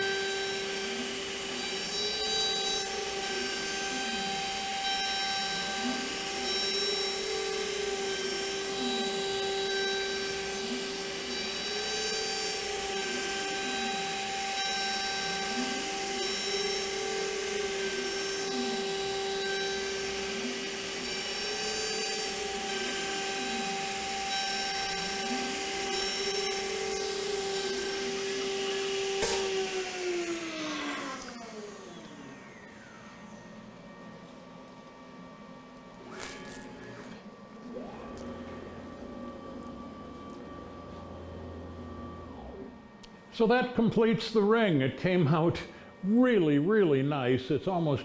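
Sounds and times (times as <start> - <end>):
fainter whine of axis drives: 0.0 - 48.0
router spindle high whine: 0.0 - 48.0.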